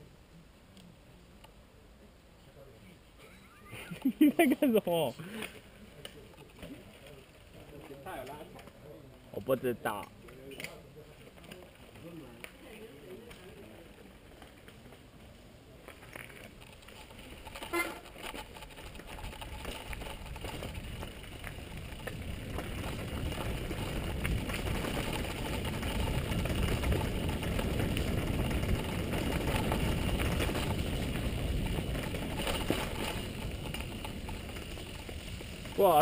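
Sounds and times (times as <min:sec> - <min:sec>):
bike tyres rattling over stones: 0:03.9 - 0:36.0.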